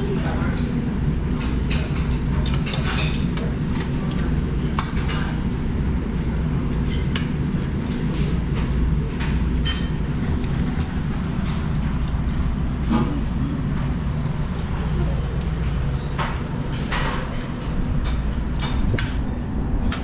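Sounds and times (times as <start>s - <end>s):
steady low rumble: 3.2s - 20.0s.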